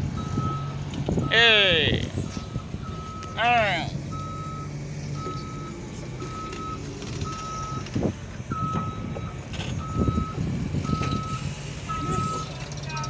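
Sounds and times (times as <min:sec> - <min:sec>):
diesel engine running: 0:00.0 - 0:13.0
excavator warning alarm beeping: 0:00.2 - 0:07.9, 0:08.5 - 0:12.6.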